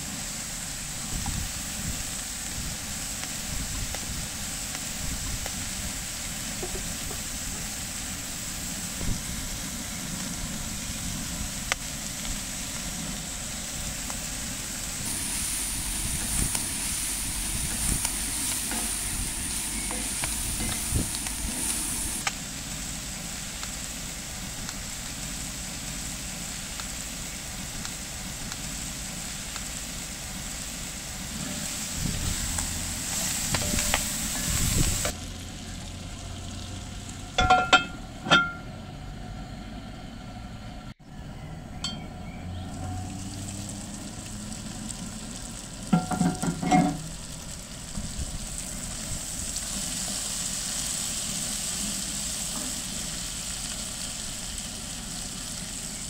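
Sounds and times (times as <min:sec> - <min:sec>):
vegetables sizzling in a pan: 0:00.0 - 0:38.1, 0:42.6 - 0:56.0.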